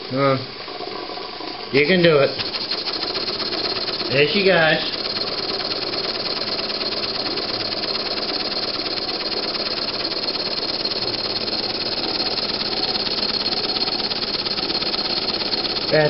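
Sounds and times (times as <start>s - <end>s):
steam engine chuffing: 1.8s - 16.0s.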